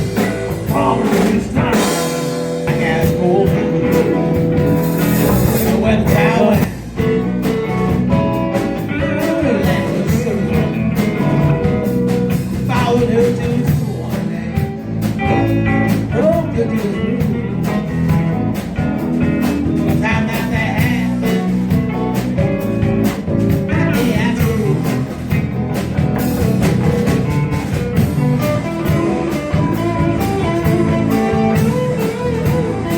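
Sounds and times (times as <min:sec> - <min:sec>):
blues band playing: 0:00.0 - 0:32.9
guitar: 0:00.0 - 0:32.9
steady drum beat: 0:00.0 - 0:32.9.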